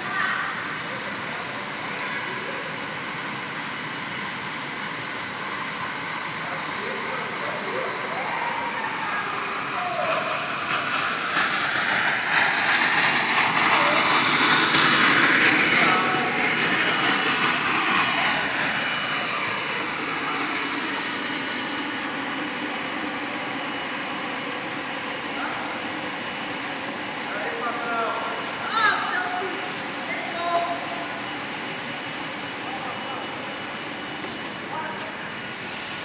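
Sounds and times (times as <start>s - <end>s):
scrubber-dryer whirring: 0.0s - 36.0s.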